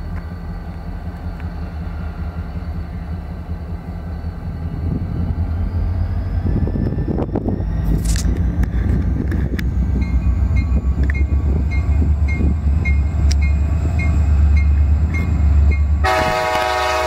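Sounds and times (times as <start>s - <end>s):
diesel locomotive engine drone: 0.0s - 17.0s
train wheels clattering on rails: 0.0s - 17.0s.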